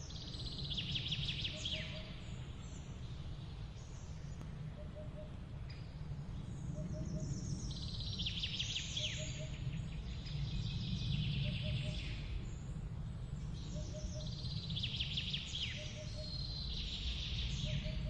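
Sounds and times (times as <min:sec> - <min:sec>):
low background rumble: 0:00.0 - 0:18.0
songbirds trilling: 0:00.0 - 0:18.0.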